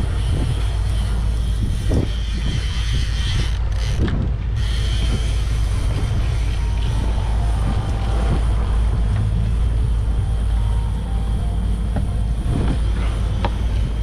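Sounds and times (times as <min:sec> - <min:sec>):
boat engines running: 0:00.0 - 0:14.0
wind buffeting microphone: 0:00.0 - 0:14.0.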